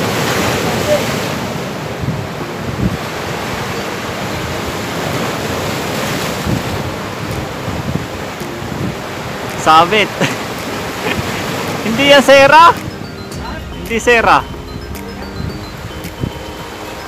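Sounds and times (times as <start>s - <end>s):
wind buffeting microphone: 0.0s - 9.6s, 12.7s - 17.0s
sea waves breaking on rocks: 0.0s - 17.0s.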